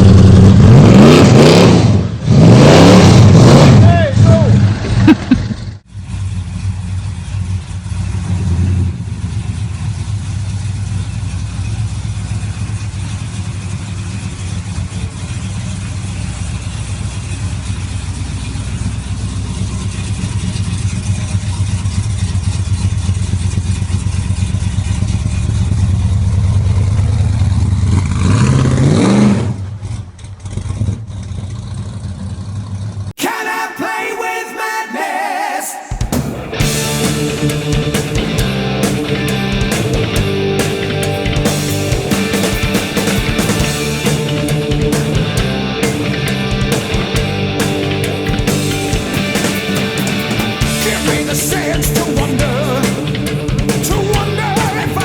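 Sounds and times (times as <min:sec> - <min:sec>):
car engine idling and revving: 0:00.0 - 0:33.1, 0:36.1 - 0:55.0.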